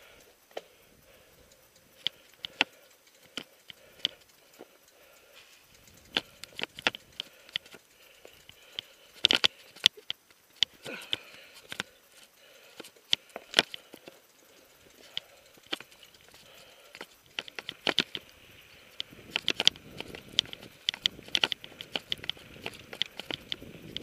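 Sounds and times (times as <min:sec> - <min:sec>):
bike rattling over bumps: 0:00.0 - 0:24.0.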